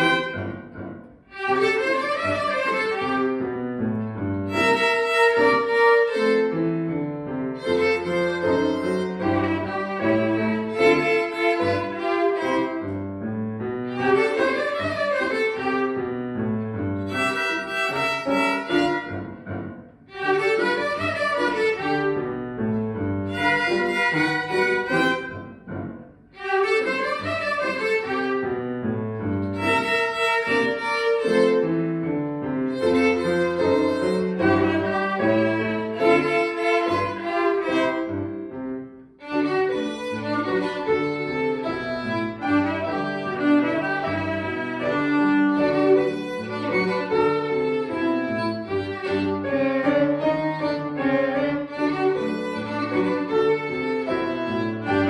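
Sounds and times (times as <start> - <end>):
violins and piano playing ragtime: 0.0 - 55.0.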